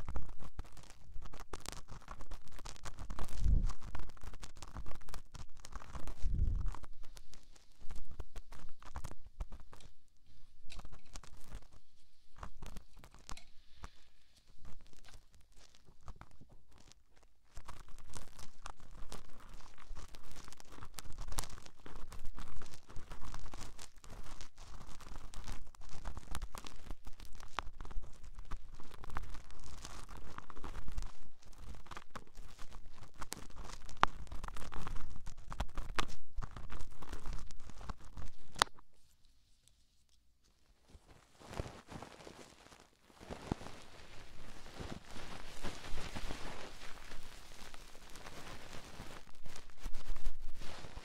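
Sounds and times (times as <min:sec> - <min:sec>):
scratching on microphone: 0:00.0 - 0:51.0.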